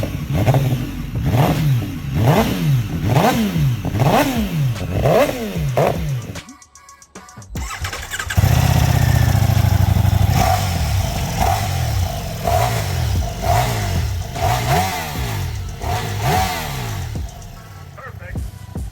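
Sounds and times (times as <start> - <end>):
motorbike engine revving: 0.0 - 6.4, 7.6 - 18.9.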